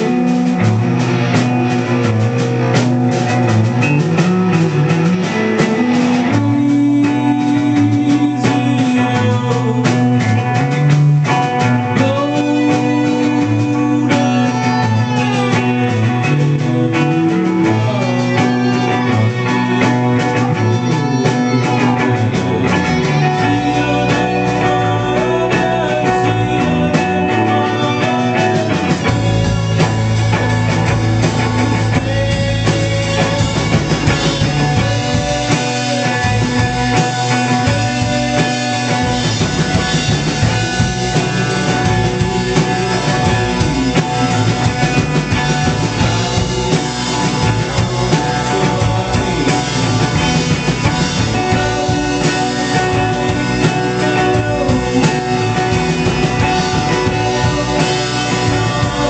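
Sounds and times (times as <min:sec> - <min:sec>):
loud rock band playing: 0:00.0 - 0:59.0.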